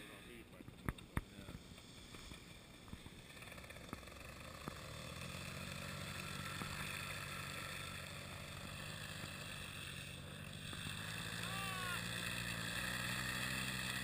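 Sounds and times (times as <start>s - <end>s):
paramotor engine buzzing: 1.5s - 14.0s.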